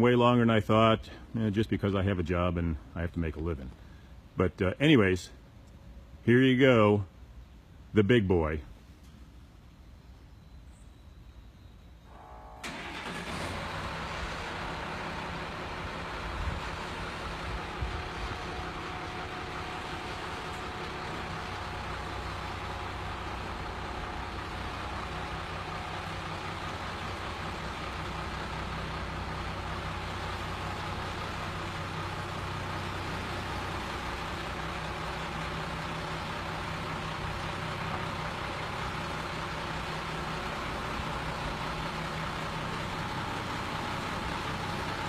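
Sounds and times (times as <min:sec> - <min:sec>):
diesel engine running steadily: 0:00.0 - 0:04.4, 0:12.1 - 0:45.0.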